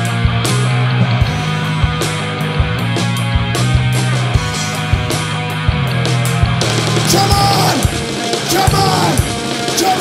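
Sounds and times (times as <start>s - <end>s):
bass guitar: 0.0s - 10.0s
electric guitar: 0.0s - 10.0s
drum hits: 1.0s - 10.0s.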